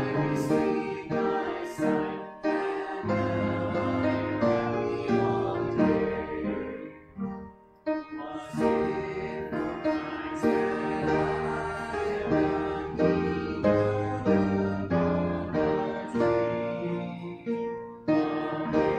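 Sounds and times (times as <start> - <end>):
congregation singing a hymn: 0.0 - 18.9
keyboard accompaniment: 0.0 - 18.9.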